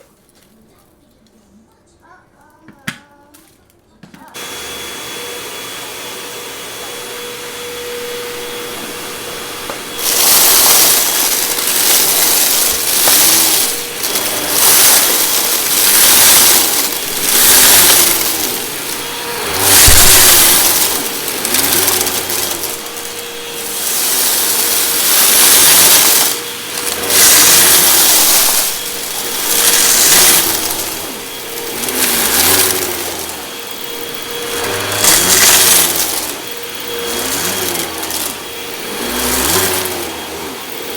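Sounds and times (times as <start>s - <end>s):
upright vacuum cleaner humming: 4.4s - 40.9s.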